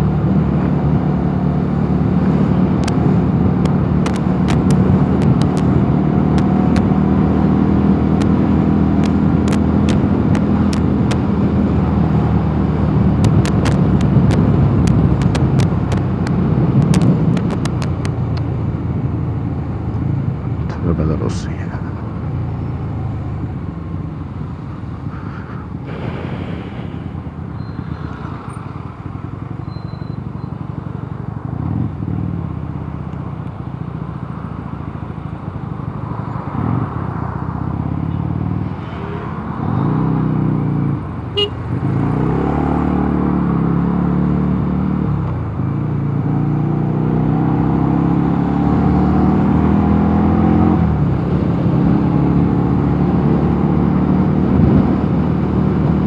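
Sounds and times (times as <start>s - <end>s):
motorcycle engine accelerating: 0.0s - 21.2s, 21.8s - 56.0s
wind and road noise: 0.0s - 56.0s.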